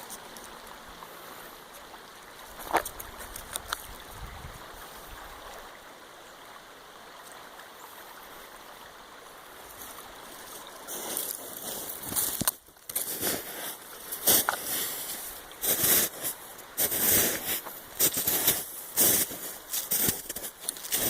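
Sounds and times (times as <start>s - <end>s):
floodwater rushing down creek: 0.0s - 21.0s.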